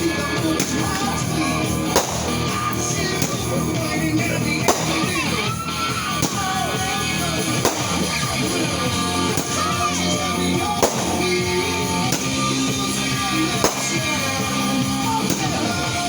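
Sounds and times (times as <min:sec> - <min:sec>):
rock music with singing: 0:00.0 - 0:16.0
sharp bangs: 0:00.0 - 0:16.0.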